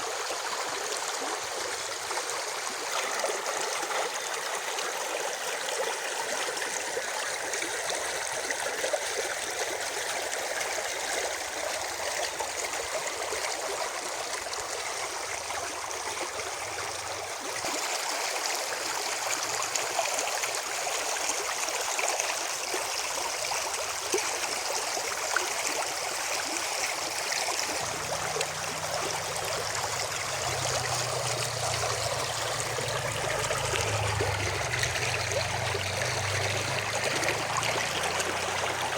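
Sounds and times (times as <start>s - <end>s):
spring water rushing and splashing: 0.0s - 38.9s.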